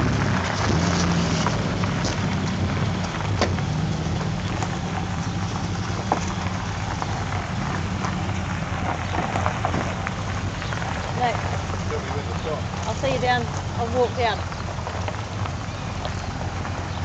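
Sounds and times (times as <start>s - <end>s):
car engines running at low revs: 0.0s - 17.0s
gravel crunching under tyres: 0.0s - 17.0s.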